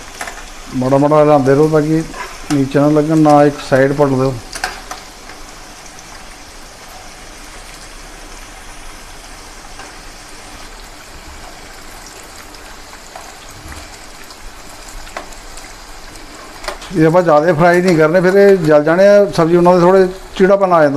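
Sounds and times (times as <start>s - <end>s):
deep-frying sizzle in oil: 0.0s - 20.9s.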